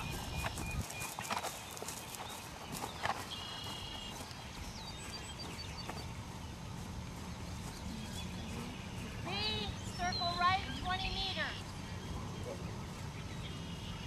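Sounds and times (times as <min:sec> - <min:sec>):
horse hoofbeats on grass: 0:00.0 - 0:11.7.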